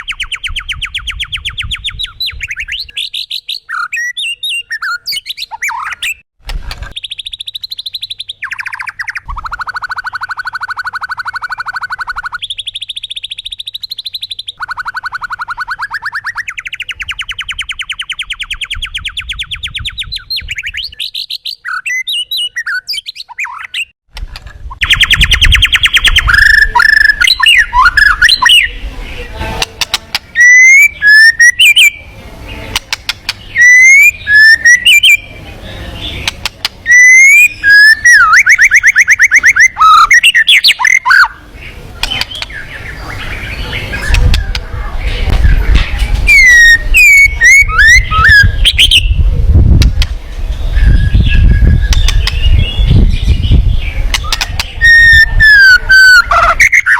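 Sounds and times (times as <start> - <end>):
bird whistled phrases and chirps: 0.0 - 6.2, 6.9 - 23.9, 24.8 - 28.8, 29.9 - 32.1, 33.3 - 44.6, 45.4 - 49.6, 50.6 - 56.9.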